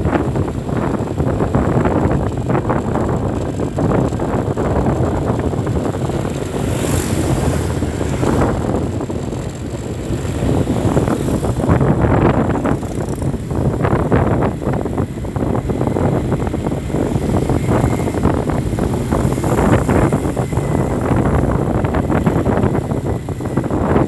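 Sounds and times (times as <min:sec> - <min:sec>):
city traffic rumble: 0:00.0 - 0:24.0
wind buffeting the microphone: 0:00.0 - 0:24.0.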